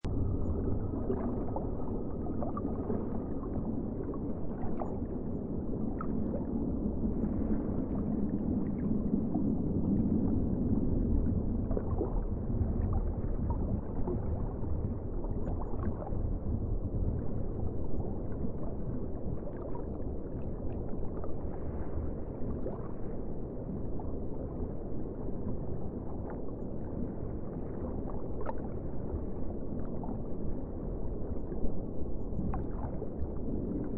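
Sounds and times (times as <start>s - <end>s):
low rumble: 0.0s - 33.9s
sea water sloshing and gurgling: 0.0s - 33.9s.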